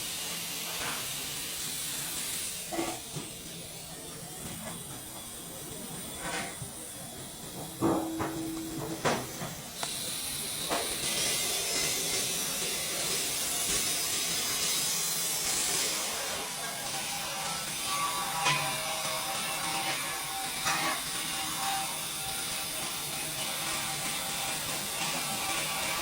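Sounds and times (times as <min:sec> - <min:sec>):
welding arc hissing: 0:00.0 - 0:26.0.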